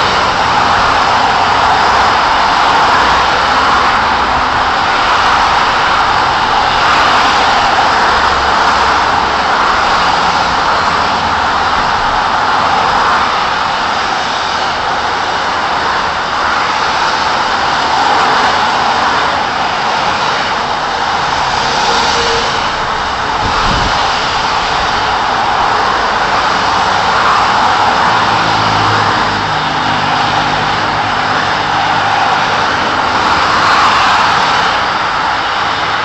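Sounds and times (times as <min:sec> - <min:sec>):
traffic engine noise: 0:00.0 - 0:36.0.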